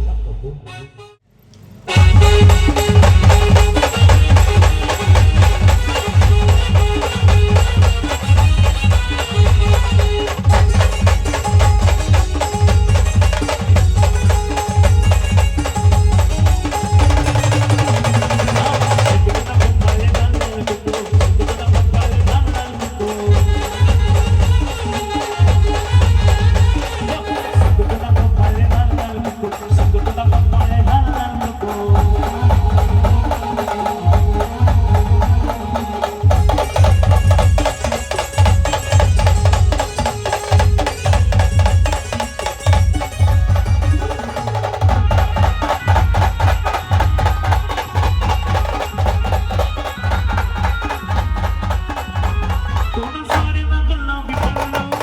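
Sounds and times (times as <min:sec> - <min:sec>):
sharp percussion: 0:01.8 - 0:55.0
heavy steady drum beat: 0:01.9 - 0:55.0.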